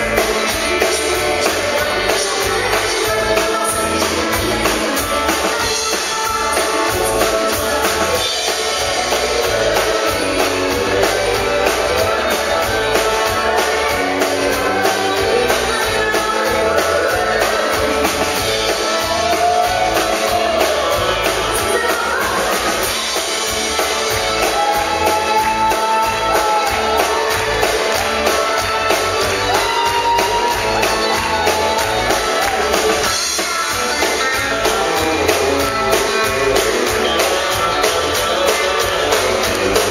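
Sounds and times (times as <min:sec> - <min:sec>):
country band playing: 0:00.0 - 0:39.9
woman singing lead vocal: 0:00.0 - 0:39.9.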